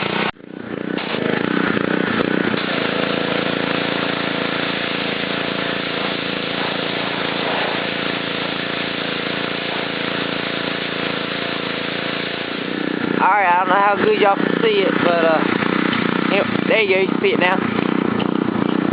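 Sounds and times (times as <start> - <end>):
pressure washer engine running: 0.0 - 18.9
water spray hissing: 1.0 - 17.6.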